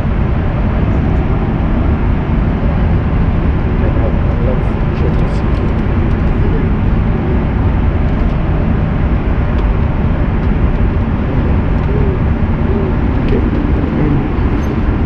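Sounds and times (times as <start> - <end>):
airliner cabin rush: 0.0 - 15.0
faint voices: 0.0 - 15.0.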